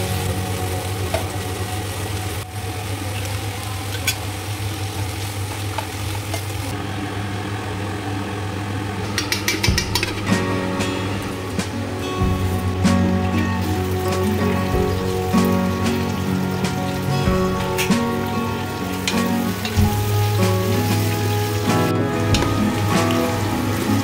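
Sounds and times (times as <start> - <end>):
greens sizzling in a pan: 0.0 - 6.8, 9.6 - 24.0.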